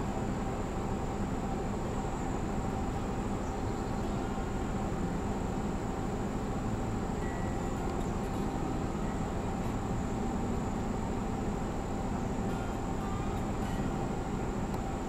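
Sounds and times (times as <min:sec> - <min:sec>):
car engine idling: 0:00.0 - 0:15.0
thin high whine: 0:00.0 - 0:15.0.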